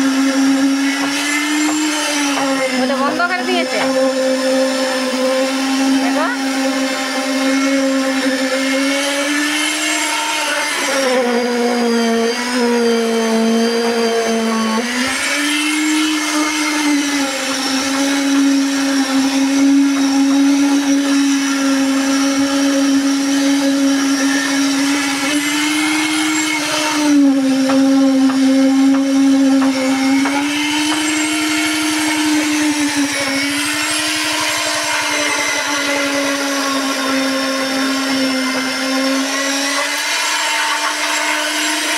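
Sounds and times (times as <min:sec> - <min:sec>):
concrete vibrator humming: 0:00.0 - 0:39.8.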